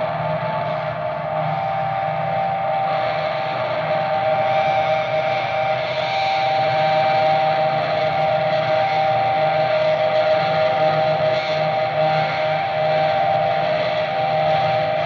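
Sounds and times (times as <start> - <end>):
electric guitar drone: 0.0 - 15.0.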